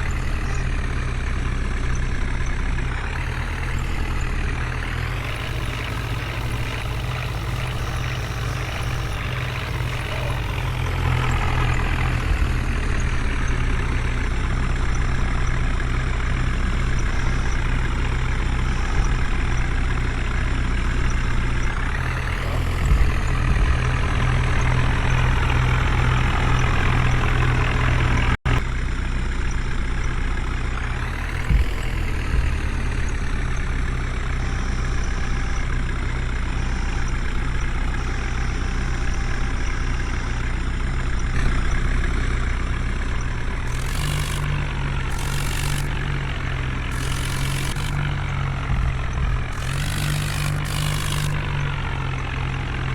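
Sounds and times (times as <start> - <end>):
diesel engine rumbling: 0.0 - 52.9.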